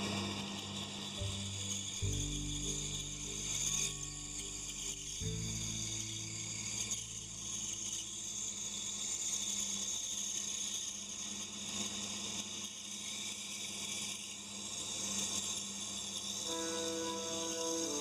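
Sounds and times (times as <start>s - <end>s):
band saw cutting wood: 0.0s - 13.1s, 16.2s - 18.0s.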